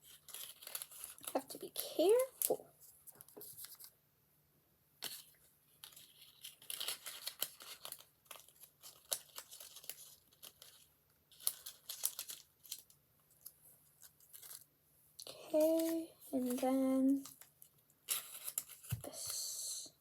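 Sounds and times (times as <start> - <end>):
paper liners crinkling: 0.0 - 3.9, 5.0 - 19.4.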